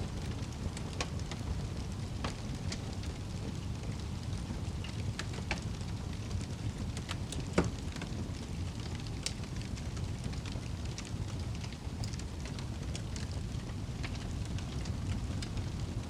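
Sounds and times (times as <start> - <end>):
fire popping: 0.0 - 16.0
logs crackling in fireplace: 0.0 - 16.0.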